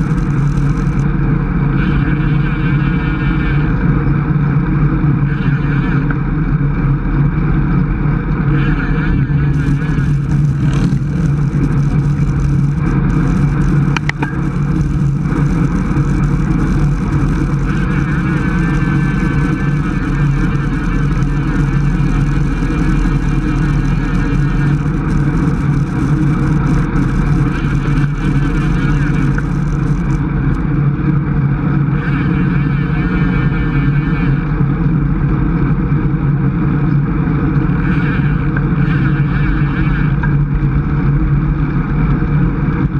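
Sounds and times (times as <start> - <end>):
tyre and road noise: 0.0 - 42.9
wind rush over microphone: 0.0 - 42.9.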